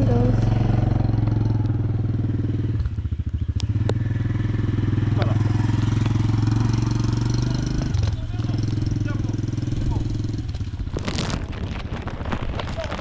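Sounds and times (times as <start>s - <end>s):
small motorbike engine running: 0.0s - 13.0s.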